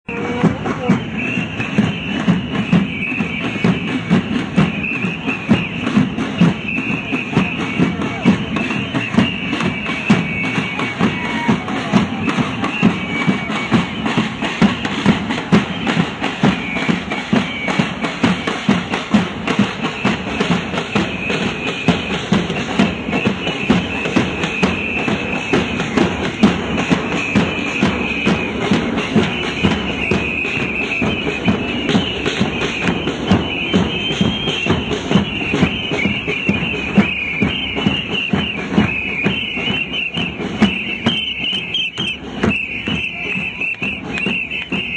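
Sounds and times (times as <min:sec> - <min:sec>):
drums in marching rhythm: 0:00.0 - 0:44.9.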